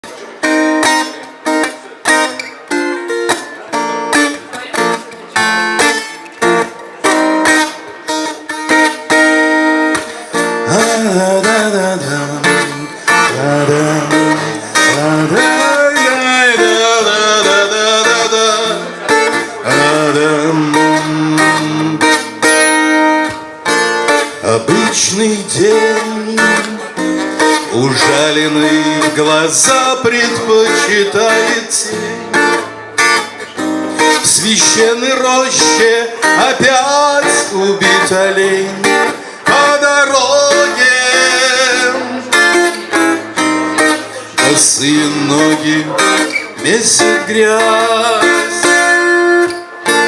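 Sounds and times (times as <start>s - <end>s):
guitar lead line with bends: 0.0s - 50.0s
strummed acoustic guitar: 0.0s - 50.0s.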